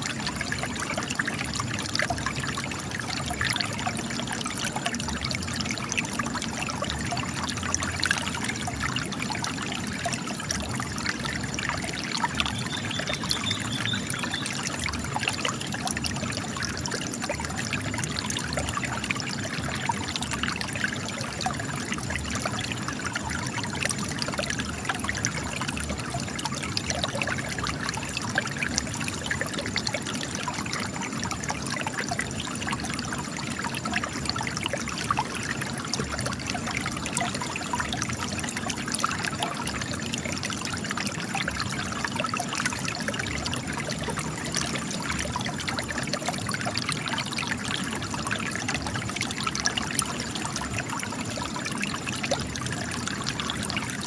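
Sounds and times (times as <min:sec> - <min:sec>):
spring water trickling over rock: 0:00.0 - 0:54.0.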